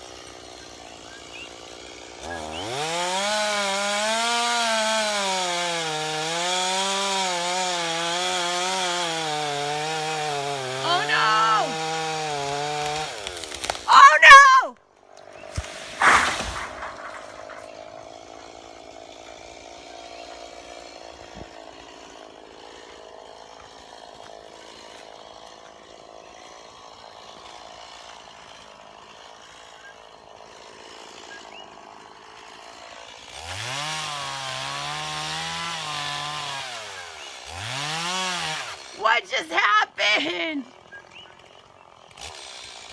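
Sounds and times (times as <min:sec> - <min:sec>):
chainsaw revving: 0:00.0 - 0:14.3, 0:15.0 - 0:42.9.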